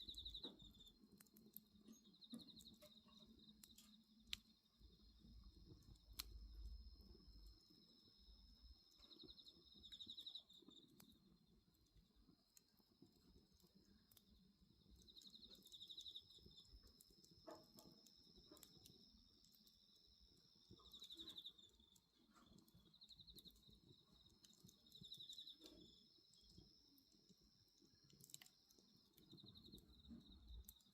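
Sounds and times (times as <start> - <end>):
insects pulsed chirping: 0.0 - 1.2, 1.8 - 11.3, 14.7 - 30.9
crickets trilling: 0.0 - 11.6, 12.2 - 30.9
bonfire crackling: 0.0 - 30.9.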